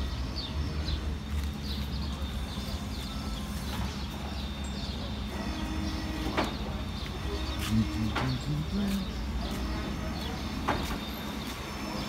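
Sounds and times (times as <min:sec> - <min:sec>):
low street rumble: 0:00.0 - 0:12.0
small birds chirping: 0:00.0 - 0:12.0.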